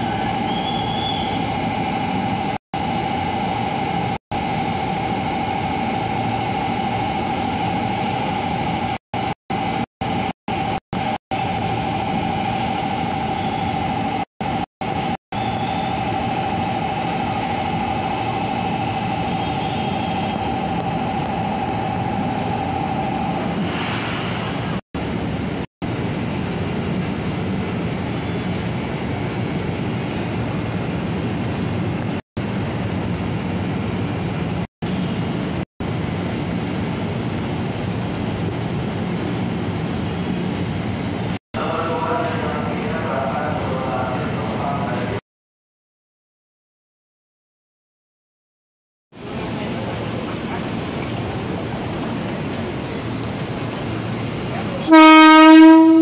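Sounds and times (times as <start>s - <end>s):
electric train rumble: 0.0s - 45.2s, 49.2s - 56.0s.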